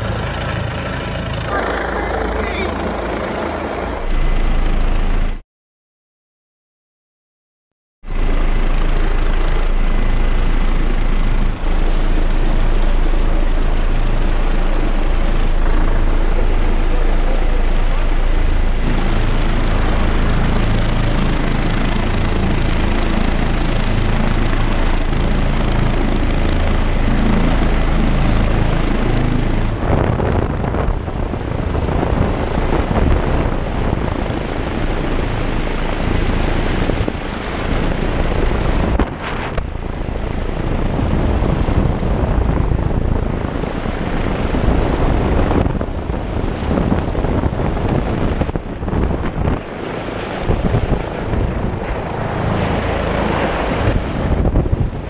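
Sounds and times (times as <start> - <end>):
helicopter rotor and turbine: 0.0 - 5.4, 8.0 - 55.0
rotor downwash and wind buffeting: 0.0 - 5.4, 8.1 - 55.0.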